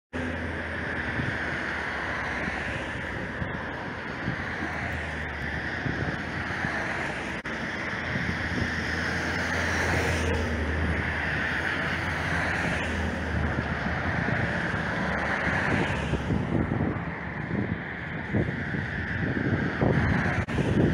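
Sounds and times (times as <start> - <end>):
distant vehicles rumbling: 0.1 - 20.9
wind on microphone: 0.2 - 20.9.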